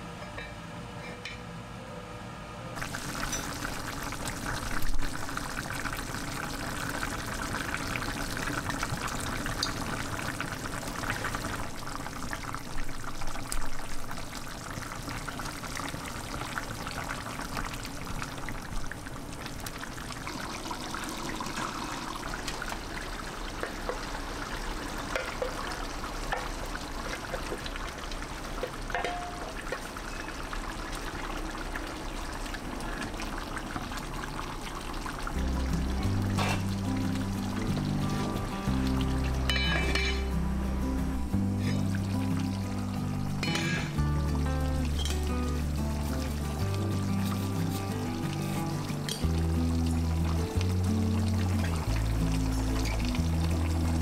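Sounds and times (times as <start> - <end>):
stew bubbling in a pot: 2.8 - 54.0.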